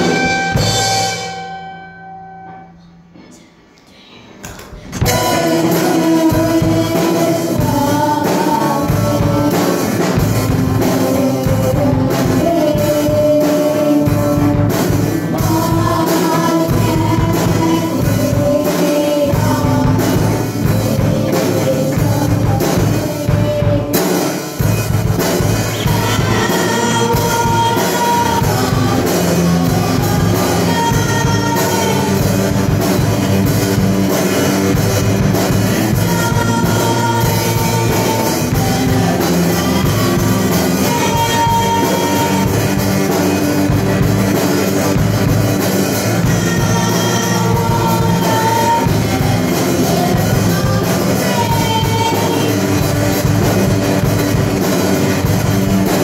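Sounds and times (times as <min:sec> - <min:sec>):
rock song with singing: 0:00.0 - 0:03.2, 0:04.5 - 0:56.0.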